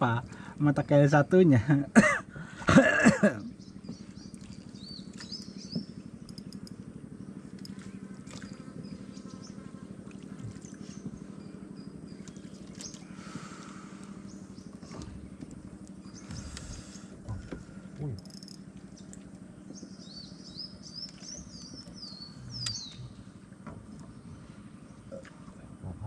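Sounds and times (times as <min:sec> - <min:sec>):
birds chirping: 0:00.0 - 0:26.0
small boat motor puttering: 0:00.0 - 0:26.0.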